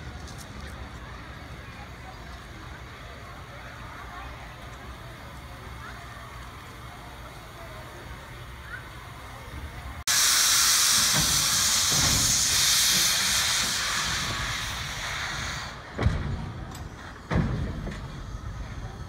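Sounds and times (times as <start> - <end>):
steam locomotive chuffs: 0.0 - 19.0
steam locomotive hissing: 0.0 - 19.0.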